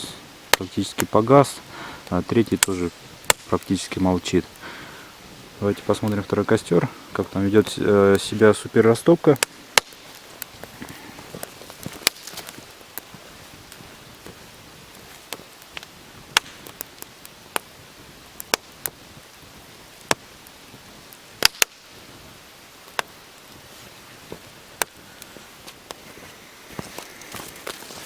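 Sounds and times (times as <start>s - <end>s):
campfire crackling and popping: 0.0s - 28.0s
faint steady hiss: 0.0s - 28.0s.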